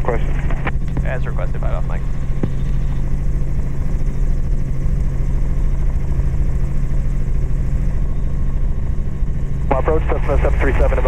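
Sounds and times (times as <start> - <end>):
helicopter engine and rotors drone: 0.0 - 11.0.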